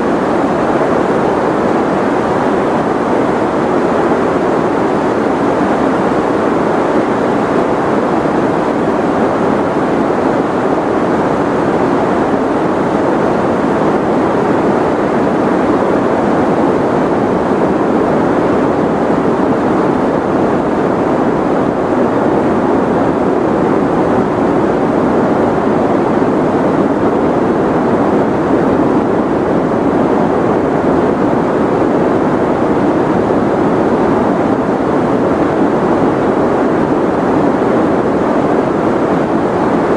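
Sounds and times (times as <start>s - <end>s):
muffled steady rushing noise: 0.0s - 39.9s.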